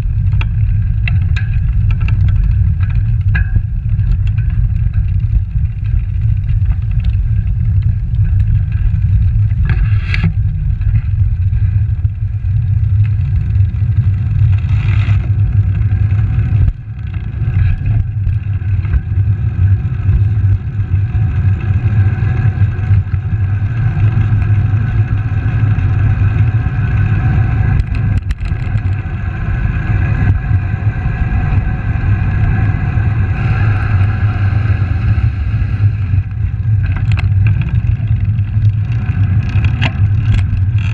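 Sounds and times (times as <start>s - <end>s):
bicycle tyre road noise: 0.0s - 40.9s
wind buffeting microphone: 0.0s - 40.9s.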